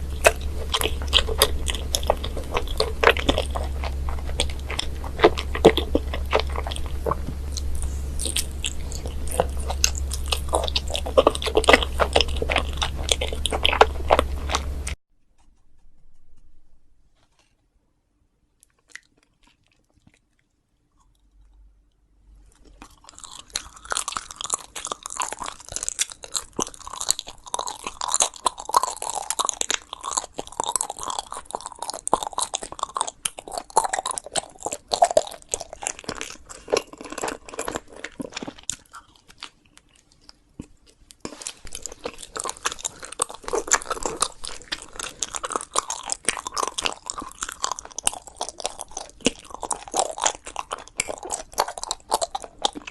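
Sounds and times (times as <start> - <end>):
chewing crunchy food: 0.0 - 15.0, 18.6 - 52.9.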